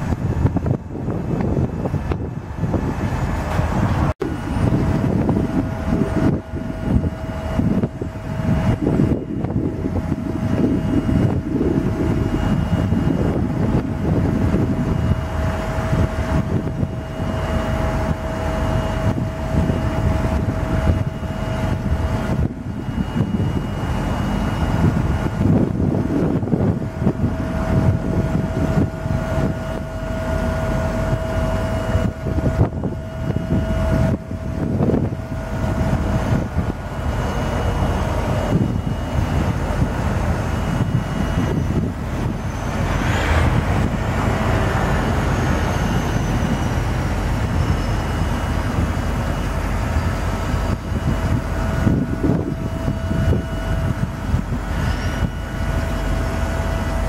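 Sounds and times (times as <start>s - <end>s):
steady whine: 0.0s - 57.0s
truck engine running: 0.0s - 57.0s.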